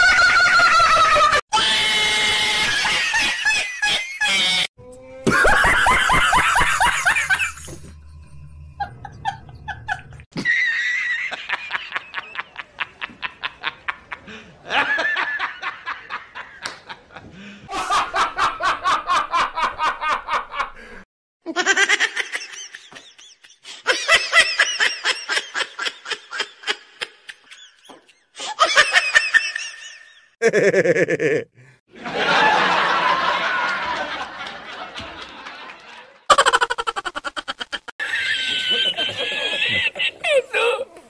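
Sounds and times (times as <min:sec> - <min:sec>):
people laughing: 0:00.0 - 0:01.4, 0:05.2 - 0:07.8, 0:08.8 - 0:41.0.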